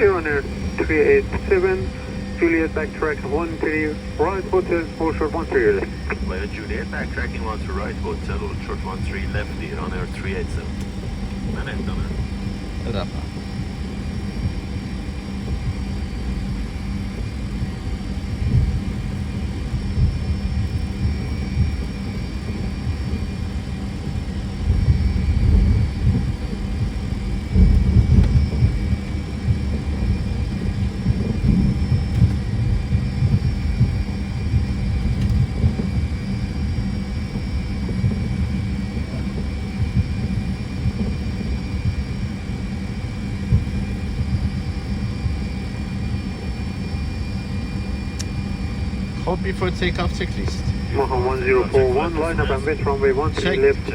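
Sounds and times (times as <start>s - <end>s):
low rumble: 0.0s - 45.4s, 48.4s - 53.9s
jet engines humming at idle: 0.0s - 53.9s.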